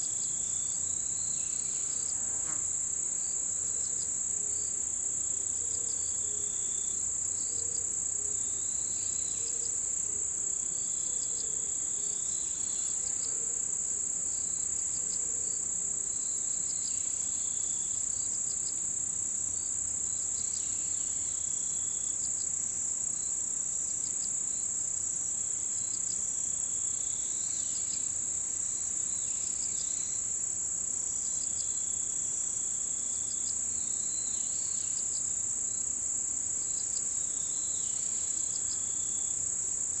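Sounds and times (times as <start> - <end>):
soft insect chirps and trills: 0.0 - 40.0.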